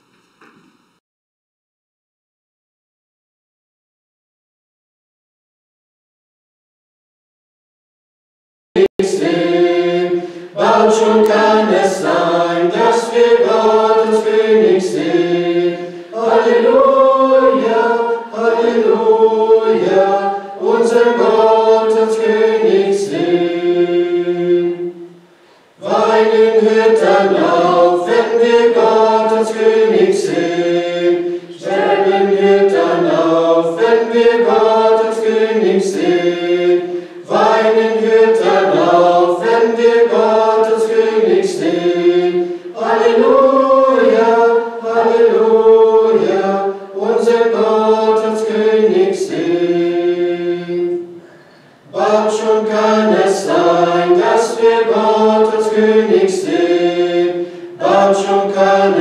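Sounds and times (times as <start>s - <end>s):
group singing a hymn: 8.8s - 59.0s.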